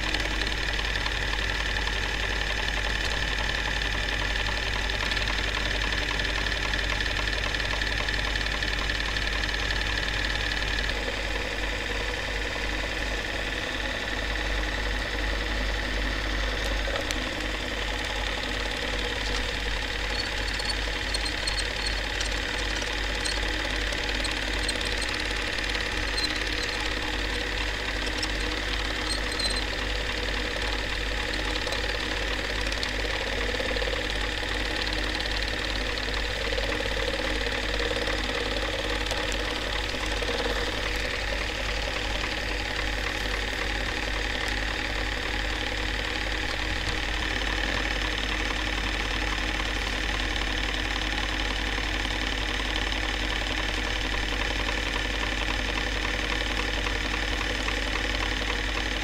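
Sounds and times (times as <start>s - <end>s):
film projector clatter: 0.0s - 59.0s.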